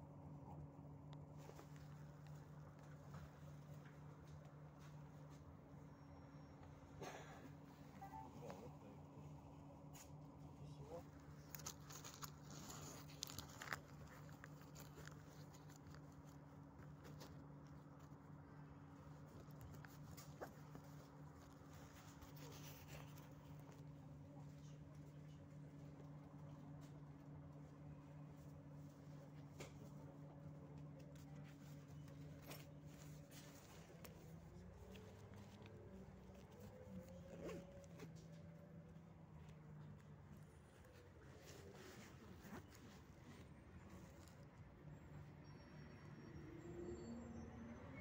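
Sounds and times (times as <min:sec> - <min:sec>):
low hum of bus: 0:00.0 - 0:48.0.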